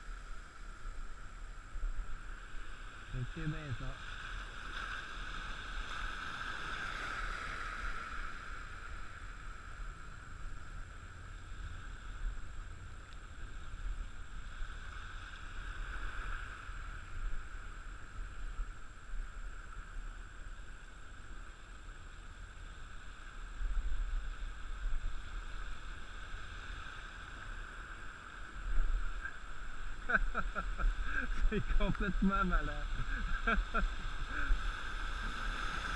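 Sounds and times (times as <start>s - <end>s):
shallow seawater washing: 0.0s - 10.0s, 11.3s - 35.9s
wind rumbling on microphone: 0.0s - 35.9s.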